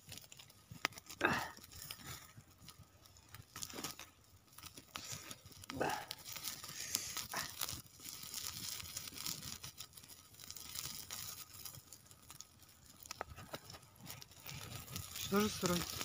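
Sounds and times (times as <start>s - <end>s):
rustling and crinkling: 0.0s - 16.0s.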